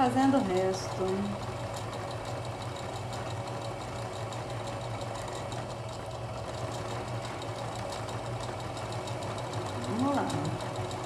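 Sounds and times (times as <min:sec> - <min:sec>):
electric sewing machine running: 0:00.0 - 0:11.0.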